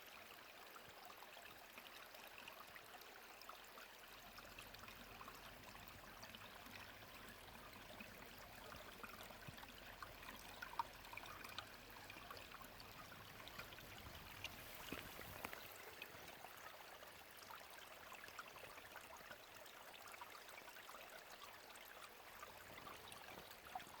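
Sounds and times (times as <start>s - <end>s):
stream trickling over rocks: 0.0s - 24.0s.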